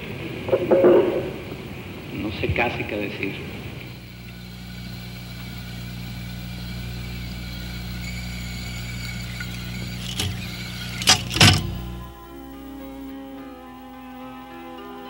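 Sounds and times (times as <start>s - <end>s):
faint high whine and hiss: 0.0s - 15.0s
tape recorder electrical hum: 0.0s - 15.0s.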